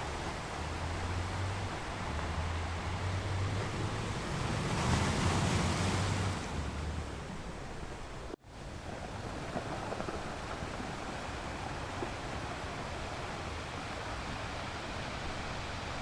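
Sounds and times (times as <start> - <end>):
waves washing onto beach: 0.0 - 16.0.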